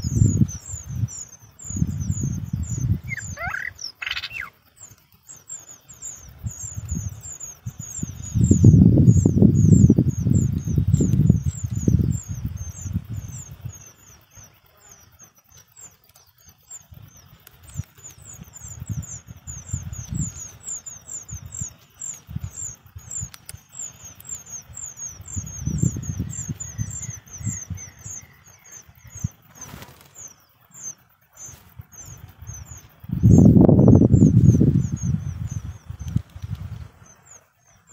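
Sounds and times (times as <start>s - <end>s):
nestlings begging chirps: 0.0s - 37.9s.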